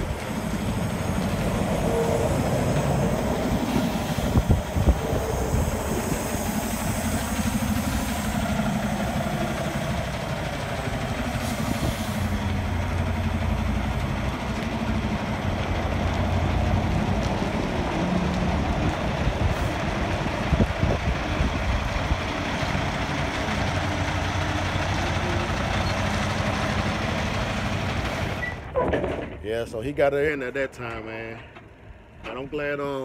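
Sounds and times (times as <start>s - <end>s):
truck diesel engine rumbling: 0.0s - 33.0s.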